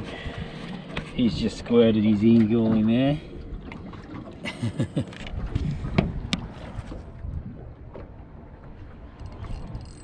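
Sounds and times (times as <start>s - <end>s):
water sloshing and gurgling in tank: 0.0s - 10.0s.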